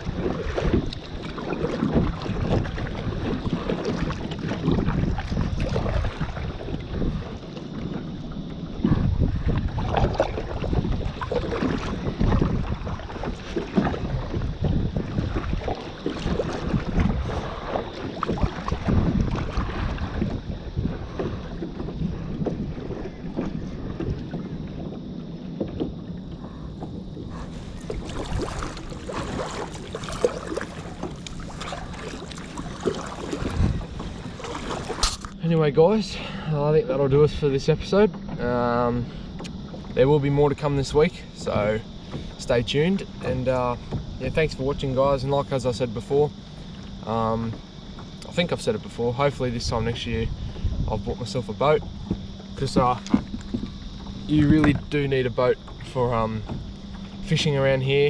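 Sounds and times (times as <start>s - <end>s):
wind buffeting microphone: 0.0s - 46.3s, 46.9s - 58.0s
water splashing around a kayak: 0.0s - 58.0s.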